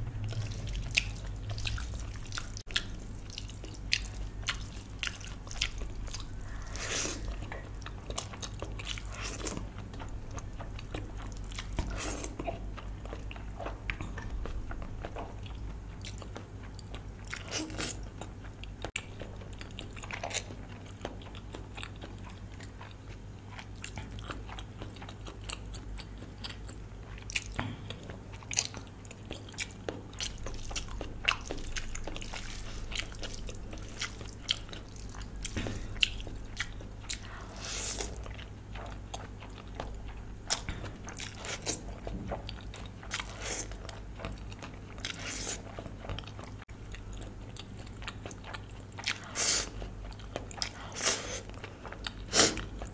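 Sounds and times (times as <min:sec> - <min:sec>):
steady low hum: 0:00.0 - 0:52.9
person chewing: 0:00.1 - 0:52.9.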